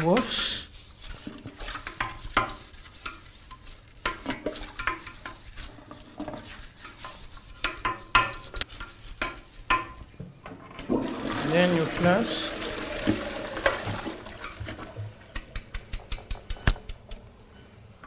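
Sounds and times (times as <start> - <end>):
toilet brush scrubbing bowl: 0.0 - 10.0, 10.9 - 17.2.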